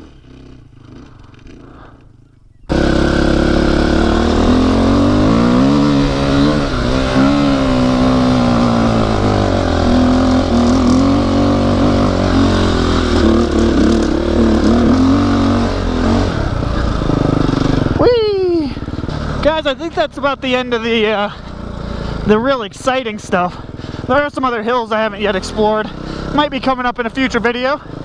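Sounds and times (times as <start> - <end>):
dirt bike engine pulling hard: 0.0 - 28.0.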